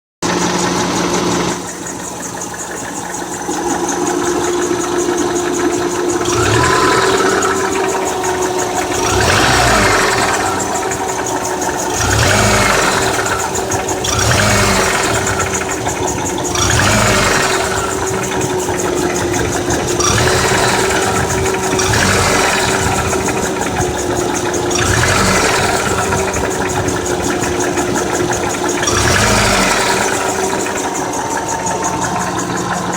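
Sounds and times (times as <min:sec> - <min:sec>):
car engine knocking and ticking: 0:00.2 - 0:32.9.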